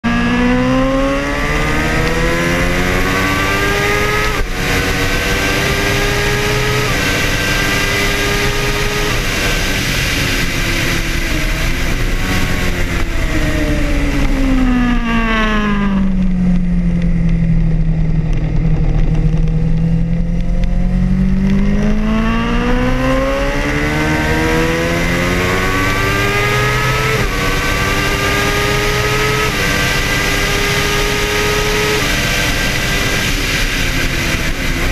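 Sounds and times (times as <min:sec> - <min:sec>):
motorcycle engine revving: 0:00.0 - 0:34.9
wind rush: 0:00.1 - 0:34.9.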